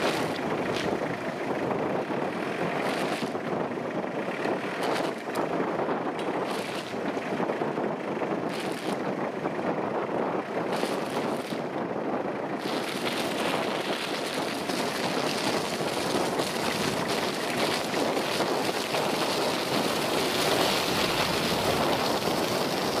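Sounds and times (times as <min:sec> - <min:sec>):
suv engine working under load: 0:00.0 - 0:23.0
tyres churning snow: 0:00.0 - 0:23.0.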